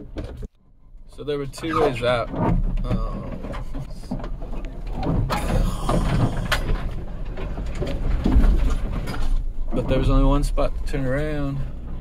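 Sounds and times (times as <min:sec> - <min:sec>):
van engine low rumble: 0:00.0 - 0:12.0
branches scraping van body: 0:01.6 - 0:12.0.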